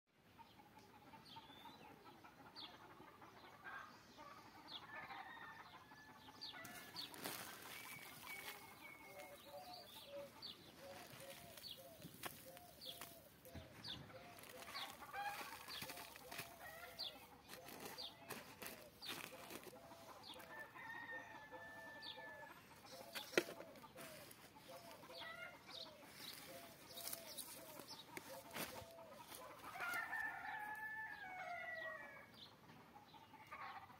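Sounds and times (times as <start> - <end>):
chickens clucking: 0.2 - 30.5, 32.5 - 33.9.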